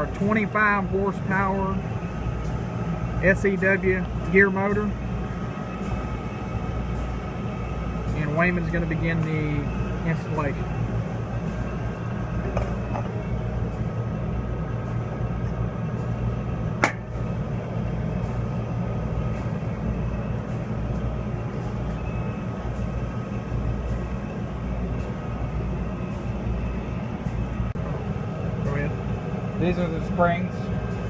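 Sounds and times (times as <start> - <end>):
industrial machinery hum: 0.0 - 31.0.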